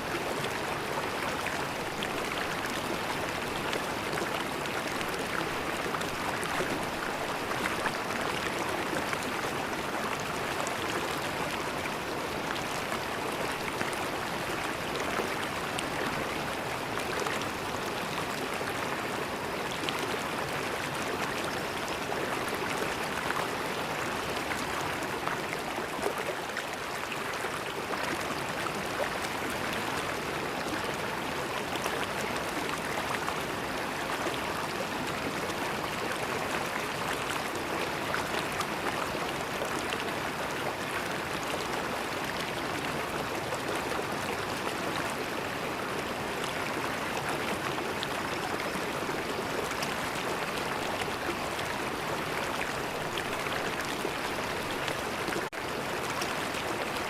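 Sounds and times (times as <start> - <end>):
river water flowing and gurgling: 0.0 - 57.0.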